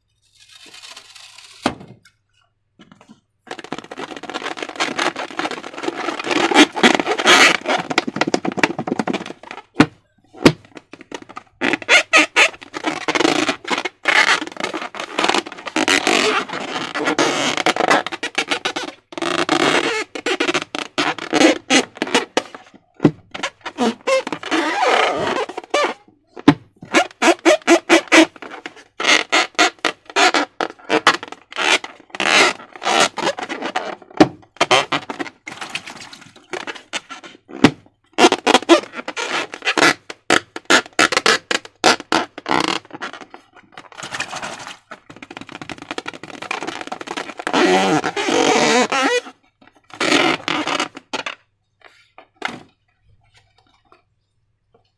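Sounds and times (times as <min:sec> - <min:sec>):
slime and balloons squelching: 0:03.5 - 0:54.1.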